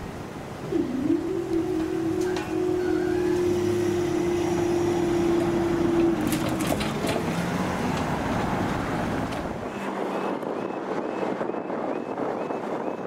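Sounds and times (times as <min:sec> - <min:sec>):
train rolling noise: 0:00.0 - 0:13.0
train whine: 0:00.0 - 0:13.0.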